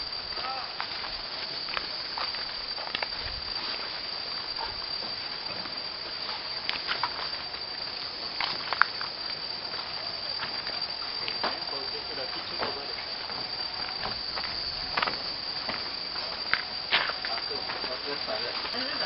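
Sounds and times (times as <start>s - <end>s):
high-pitched insect drone: 0.0s - 19.0s
footsteps on path: 0.3s - 10.8s, 13.2s - 18.9s.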